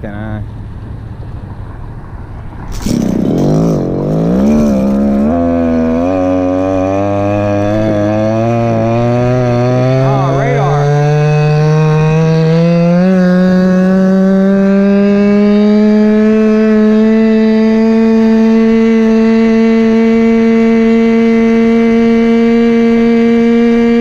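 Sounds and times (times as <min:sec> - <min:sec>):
small two-stroke engine revving: 0:02.7 - 0:24.0.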